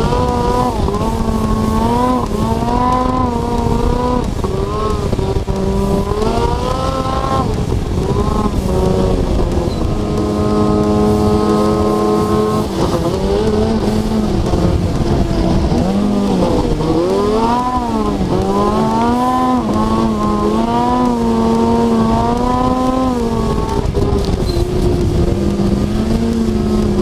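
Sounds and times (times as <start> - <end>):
snowmobile engine revving: 0.0 - 27.0
steady rushing noise: 0.0 - 27.0.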